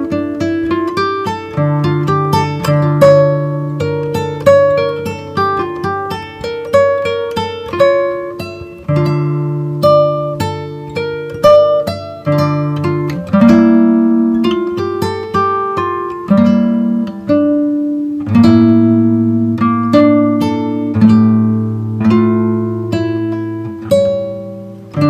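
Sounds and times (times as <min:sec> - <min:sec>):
plucked string music: 0:00.0 - 0:25.0.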